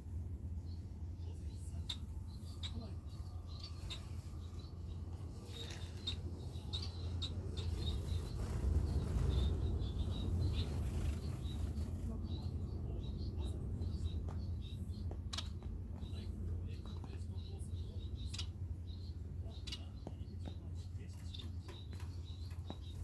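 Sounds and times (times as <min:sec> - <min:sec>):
steady low rumble: 0:00.0 - 0:23.0
finches chirping: 0:00.2 - 0:23.0.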